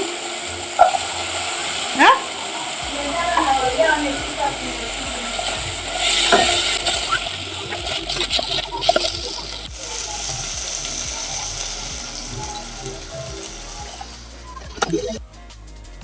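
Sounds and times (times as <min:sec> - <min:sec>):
food sizzling in a pan: 0:00.0 - 0:15.2.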